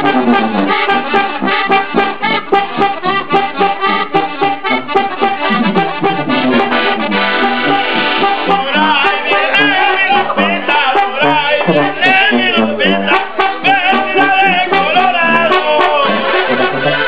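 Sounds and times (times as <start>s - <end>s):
accordion melody: 0.0s - 17.0s
tuba low notes: 0.0s - 17.0s.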